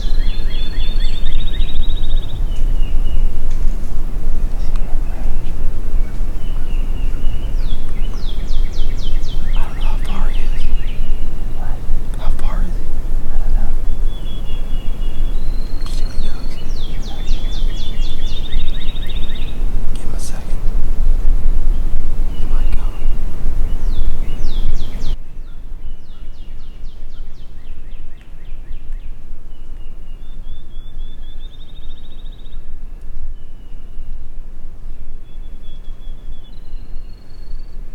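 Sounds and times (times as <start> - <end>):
songbird whistling: 0.0 - 3.7, 5.2 - 11.8, 13.9 - 19.6, 22.2 - 34.3, 35.2 - 37.9
wind buffeting microphone: 0.0 - 37.9.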